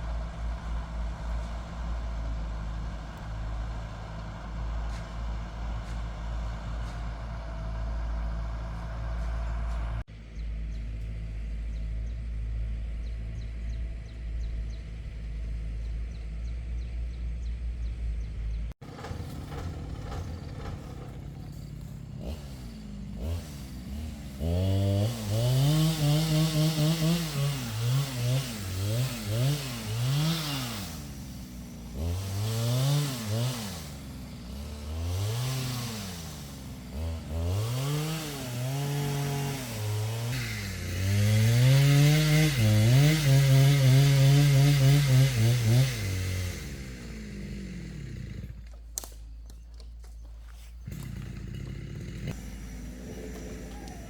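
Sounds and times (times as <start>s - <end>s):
chainsaw revving: 0.0s - 10.1s, 18.8s - 49.2s, 50.5s - 54.0s
vehicle engine rumble: 0.0s - 41.9s, 42.5s - 54.0s.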